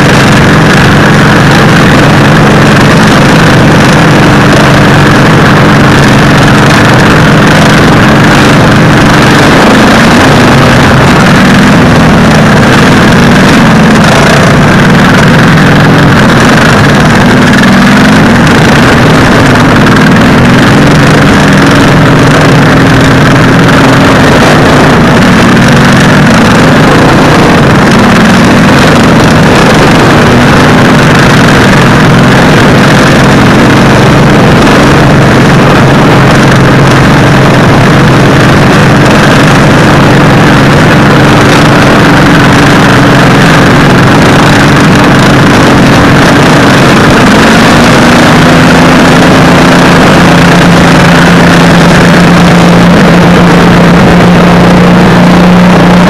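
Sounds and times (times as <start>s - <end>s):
lawn mower engine running hard: 0.0s - 56.0s.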